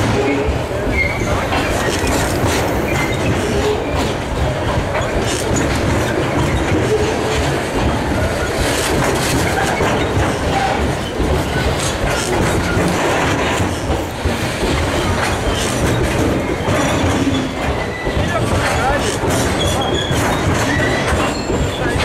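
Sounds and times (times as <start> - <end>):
train wheels clattering over joints: 0.0 - 22.0.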